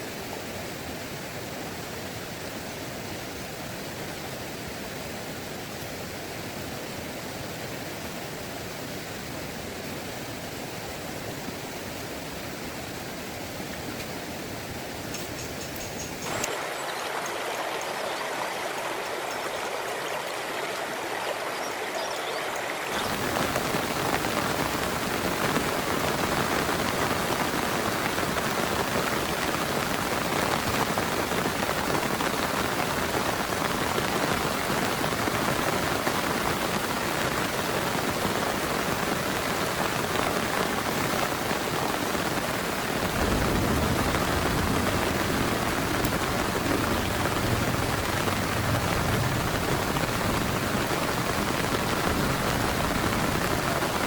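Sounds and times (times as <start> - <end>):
flowing water: 0.0 - 54.0
heavy rain: 0.0 - 54.0.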